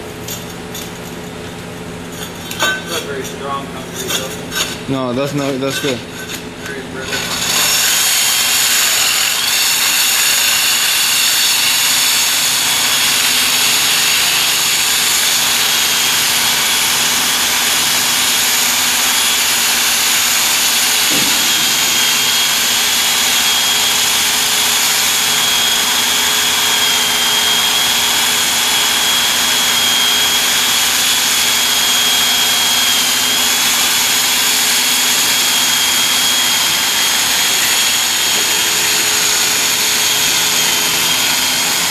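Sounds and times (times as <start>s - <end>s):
power drill boring through concrete: 5.4s - 41.9s.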